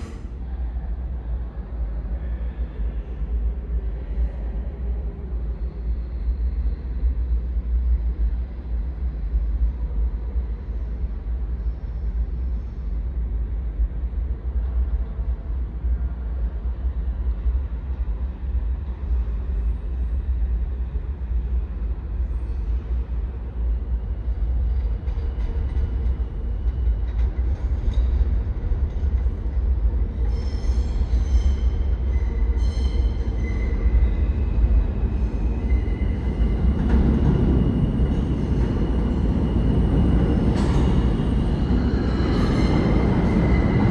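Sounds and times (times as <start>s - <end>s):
subway car rumble: 0.0s - 43.9s.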